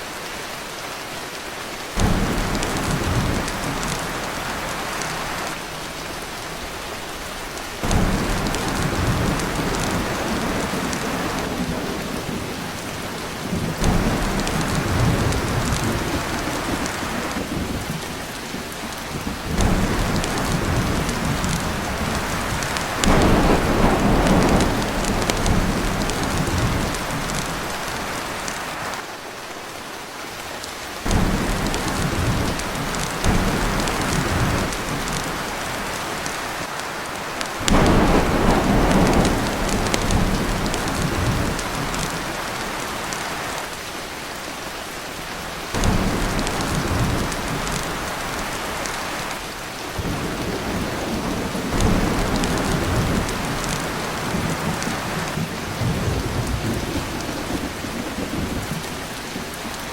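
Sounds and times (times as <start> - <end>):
heavy rain on a tin roof: 0.0 - 59.9
thunder rumbling: 2.0 - 5.6, 7.8 - 28.6, 31.1 - 36.6, 37.6 - 43.2, 45.8 - 59.6.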